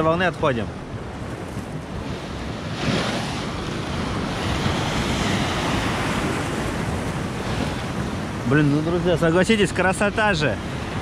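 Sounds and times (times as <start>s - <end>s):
waves breaking on concrete: 0.9s - 11.0s.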